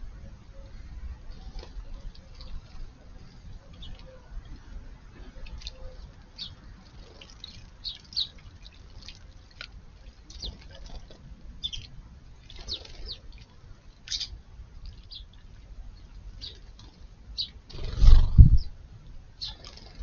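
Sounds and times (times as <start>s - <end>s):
sparrows chirping: 0.0s - 18.8s, 19.4s - 20.0s.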